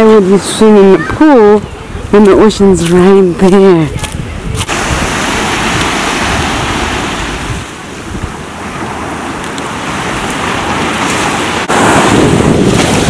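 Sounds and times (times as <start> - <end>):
waves breaking on beach: 0.0 - 13.0
wind rumbling on microphone: 0.0 - 13.0.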